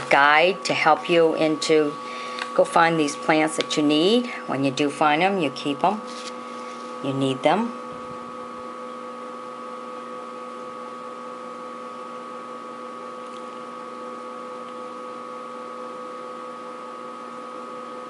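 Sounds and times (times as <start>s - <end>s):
machine hum: 0.0s - 15.5s.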